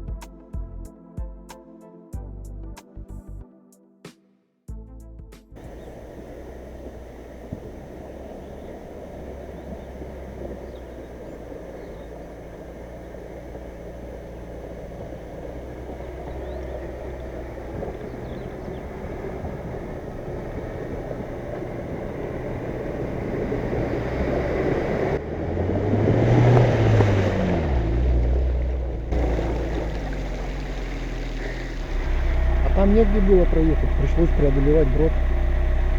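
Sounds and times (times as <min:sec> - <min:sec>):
suv engine driving: 0:05.6 - 0:35.9.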